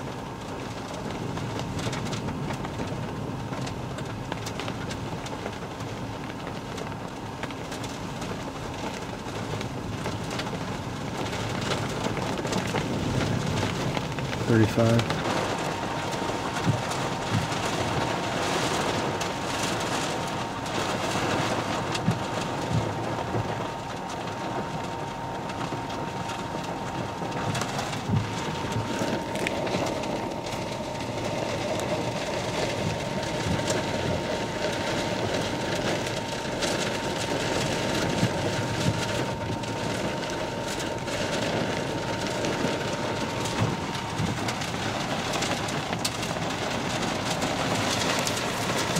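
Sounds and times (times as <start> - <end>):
heavy rain on a car roof: 0.0 - 48.9
wind buffeting a car: 0.0 - 48.9.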